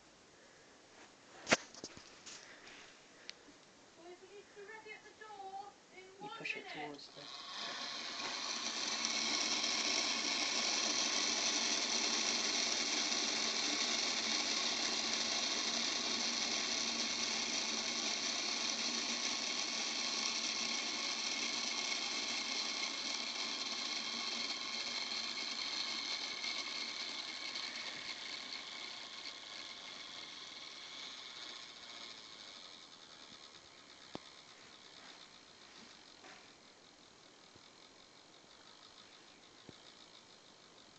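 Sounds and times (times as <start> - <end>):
clock gears whirring and ratcheting: 6.2 - 40.9.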